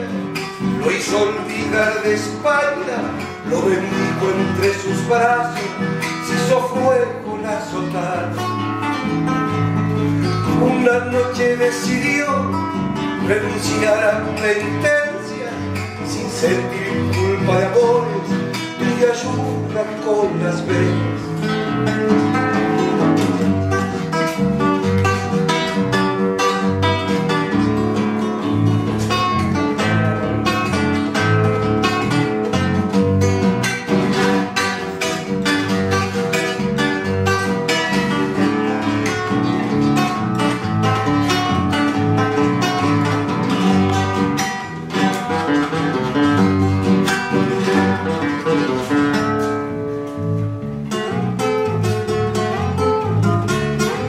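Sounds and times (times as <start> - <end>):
classical guitar playing: 0.0 - 54.0.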